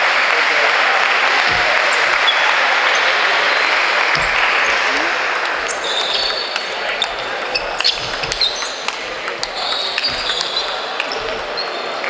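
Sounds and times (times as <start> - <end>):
audience applause: 0.0 - 12.0
table tennis ball bouncing: 1.4 - 3.4, 4.0 - 12.0.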